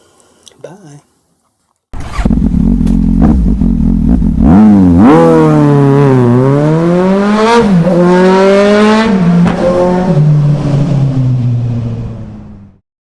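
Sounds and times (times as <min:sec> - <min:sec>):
motorcycle engine accelerating: 0:02.0 - 0:12.8.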